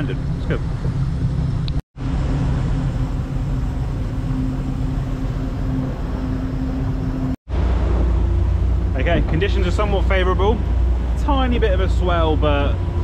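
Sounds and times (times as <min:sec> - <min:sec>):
boat engine humming: 0:00.0 - 0:13.0
water rushing: 0:00.0 - 0:13.0.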